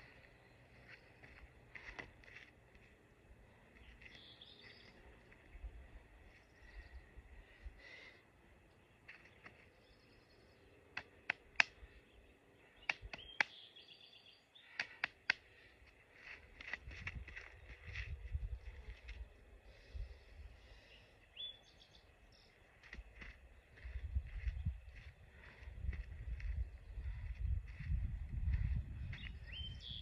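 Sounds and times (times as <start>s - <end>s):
faint low wind rumble: 0.0s - 13.3s, 15.0s - 30.0s
small birds chirping: 0.0s - 30.0s.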